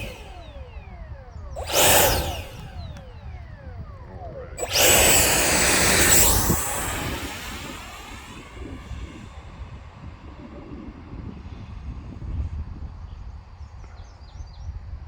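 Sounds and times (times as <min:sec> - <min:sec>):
electric fan motor whine: 0:00.0 - 0:13.2.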